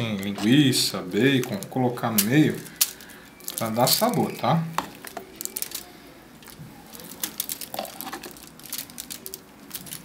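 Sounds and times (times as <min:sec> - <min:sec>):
aluminium foil crinkling: 0:01.3 - 0:10.0.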